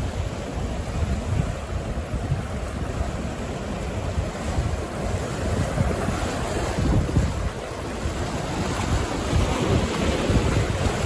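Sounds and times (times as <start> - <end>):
sea surf washing on shore: 0.0 - 11.0
wind buffeting microphone: 0.0 - 11.0.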